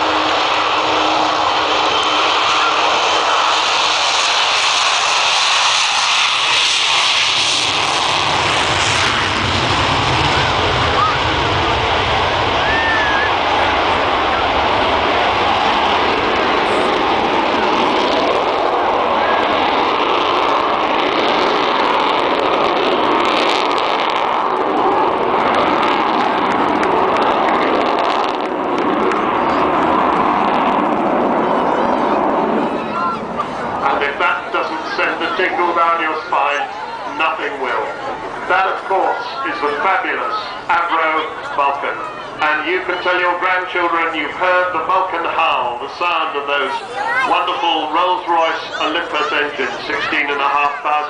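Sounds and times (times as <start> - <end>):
jet engines rushing: 0.0 - 51.0.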